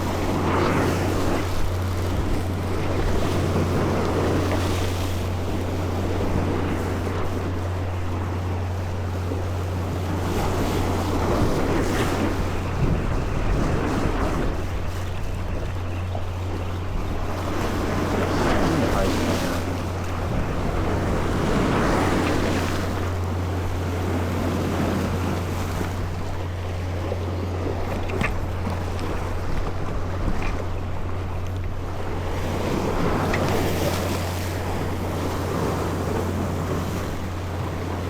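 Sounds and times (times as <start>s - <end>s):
boat engine droning: 0.0s - 38.0s
water washing against hull: 0.0s - 38.0s
wind buffeting microphone: 0.0s - 38.0s.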